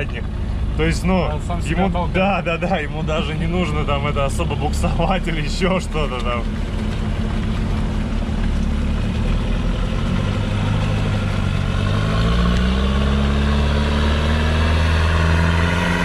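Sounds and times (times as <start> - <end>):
vehicle engine running under load: 0.0 - 16.0.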